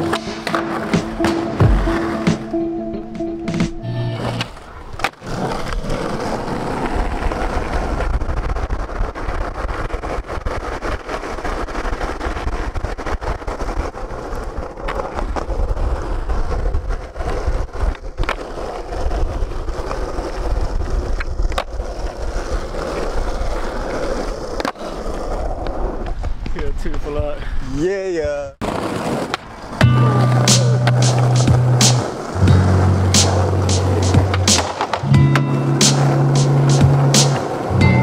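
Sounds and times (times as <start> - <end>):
skateboard clacks: 0.0 - 2.5, 4.4 - 26.6, 28.6 - 38.0
skateboard wheels rumbling on asphalt: 0.0 - 2.6, 4.0 - 38.0.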